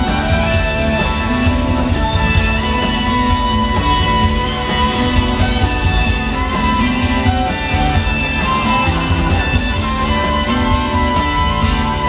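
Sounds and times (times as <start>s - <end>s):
bass guitar: 0.0s - 12.0s
drums: 0.0s - 12.0s
electric guitars: 0.0s - 12.0s.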